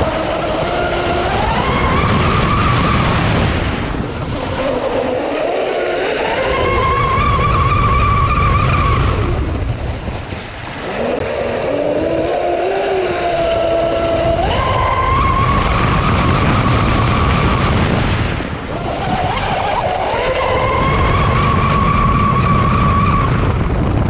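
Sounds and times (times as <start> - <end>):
water rushing on hull: 0.0 - 24.0.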